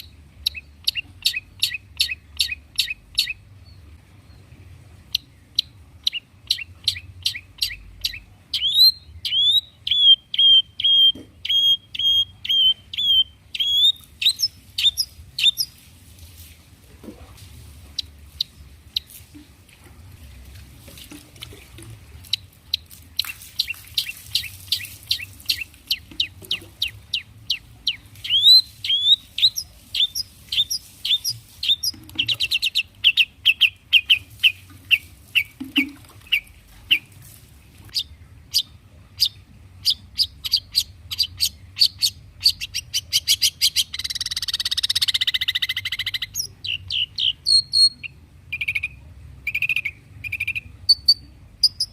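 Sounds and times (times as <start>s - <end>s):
bird chirping: 0.0s - 15.8s, 17.9s - 19.2s, 22.2s - 51.9s.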